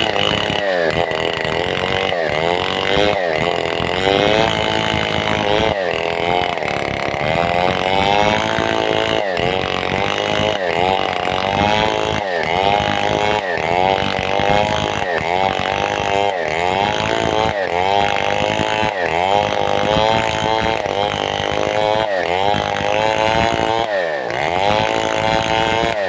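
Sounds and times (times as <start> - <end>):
chainsaw cutting log: 0.0 - 26.0.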